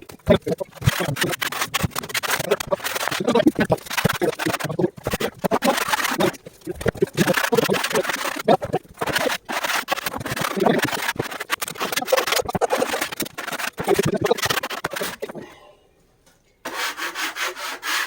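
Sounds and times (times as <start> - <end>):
hand file rasping on saw chain: 0.3 - 15.4, 16.7 - 18.0.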